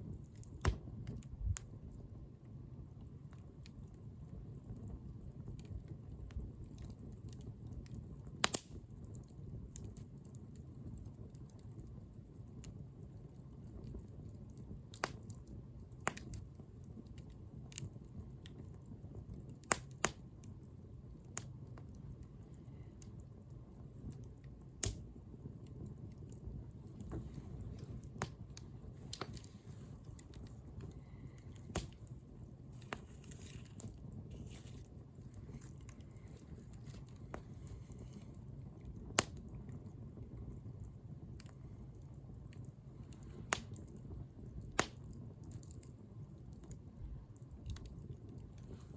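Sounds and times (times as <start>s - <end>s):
burning wood crackling and popping: 0.0s - 48.9s
low rumble of flame: 0.0s - 48.9s.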